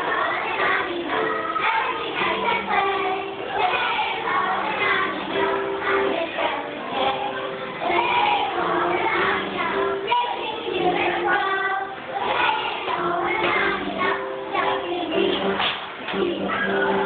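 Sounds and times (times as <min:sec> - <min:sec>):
children singing with music: 0:00.0 - 0:17.0.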